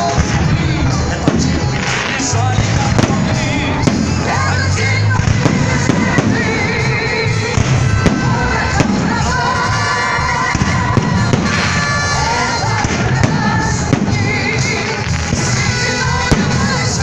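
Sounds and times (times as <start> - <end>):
fireworks bangs: 0.0 - 17.0
loud music: 0.0 - 17.0.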